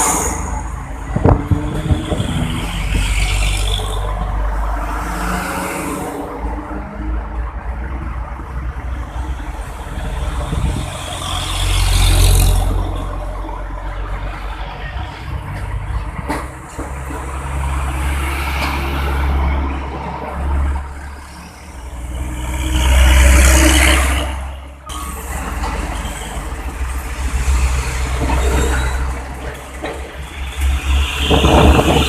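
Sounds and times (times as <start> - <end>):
trucks passing: 0.0 - 32.0.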